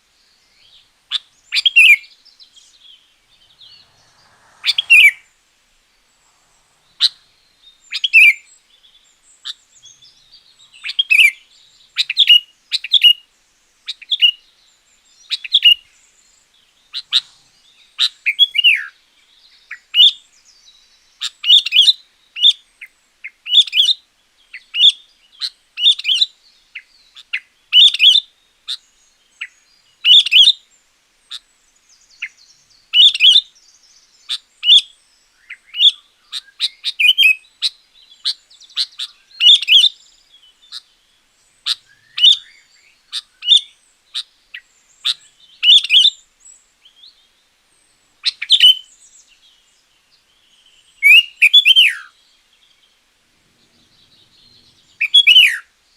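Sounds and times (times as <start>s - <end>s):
bird singing chirpy phrases: 0.1s - 22.8s, 31.3s - 55.9s.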